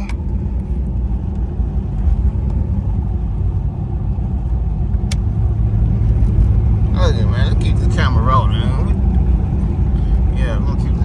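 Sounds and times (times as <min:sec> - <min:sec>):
car engine and road noise: 0:00.0 - 0:11.0
low engine drone: 0:00.0 - 0:11.0.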